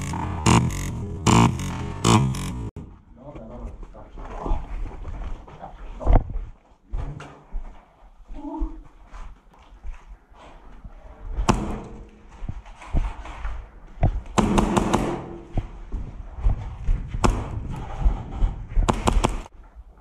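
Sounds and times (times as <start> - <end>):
footsteps on concrete floor: 2.2 - 14.4, 15.2 - 20.0.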